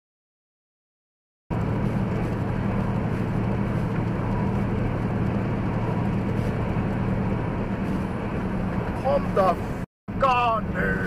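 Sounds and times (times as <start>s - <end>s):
road and tyre noise: 1.5s - 11.0s
vehicle engine drone: 1.5s - 11.0s.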